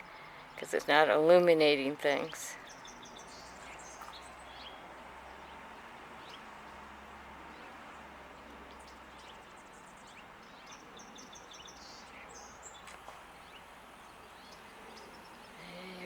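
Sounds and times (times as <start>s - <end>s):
faint bird chirping: 0.0s - 16.0s
steady outdoor hiss: 0.0s - 16.0s.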